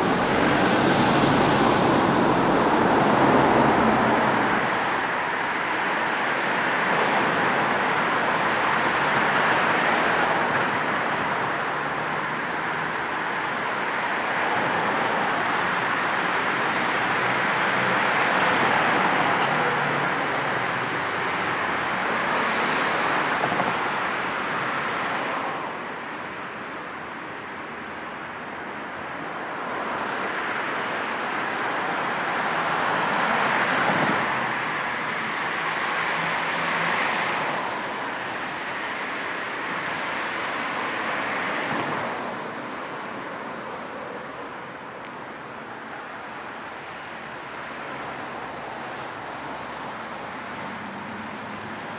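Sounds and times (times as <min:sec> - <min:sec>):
cars passing: 0:00.0 - 0:27.8, 0:28.6 - 0:51.9.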